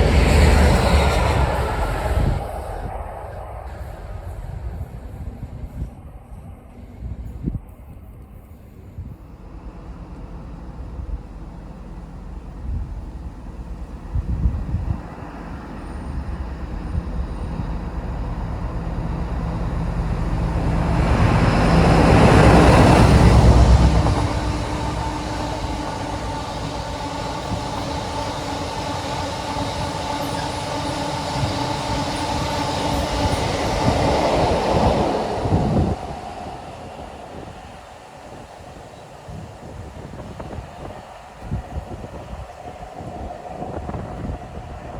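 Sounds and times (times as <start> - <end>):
diesel locomotive engine: 0.0 - 44.9
train wheel squeal: 0.0 - 44.9.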